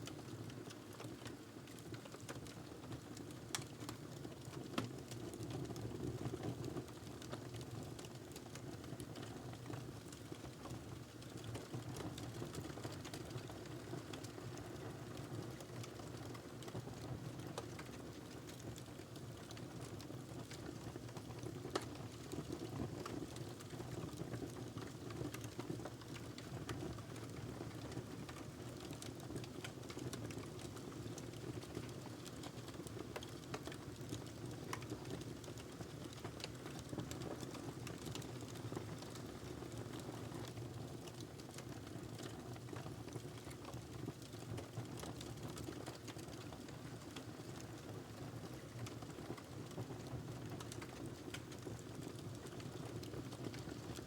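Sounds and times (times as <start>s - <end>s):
wood fire crackling: 7.0s - 47.6s, 48.2s - 54.0s.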